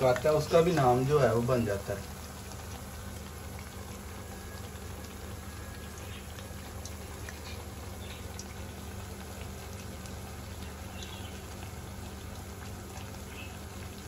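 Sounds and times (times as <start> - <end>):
food deep-frying in oil: 0.0 - 14.0
small crackles: 1.8 - 14.0.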